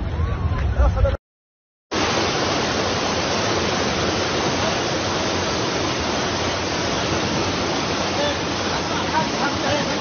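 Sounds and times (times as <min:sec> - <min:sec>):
floodwater rushing down a street: 0:01.9 - 0:10.0.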